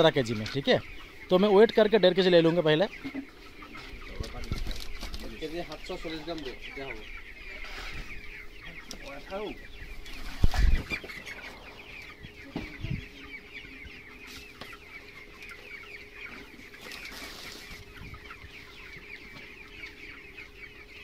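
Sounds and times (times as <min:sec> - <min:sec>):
chickens clucking and peeping: 0:00.0 - 0:21.0.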